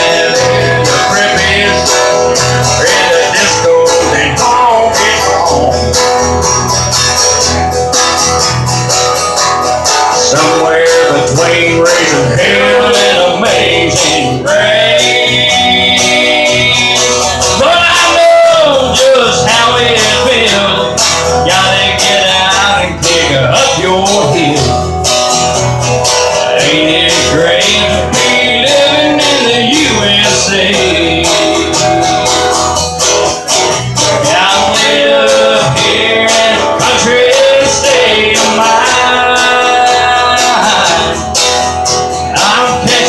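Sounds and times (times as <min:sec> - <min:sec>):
country band playing: 0:00.0 - 0:43.0
strummed acoustic guitars: 0:00.0 - 0:43.0.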